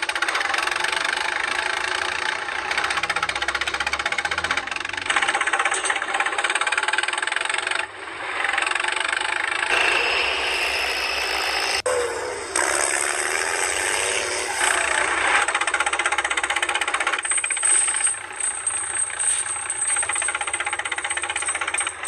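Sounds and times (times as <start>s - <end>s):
fast mechanical rattling ticks: 0.0s - 9.9s, 12.6s - 22.0s.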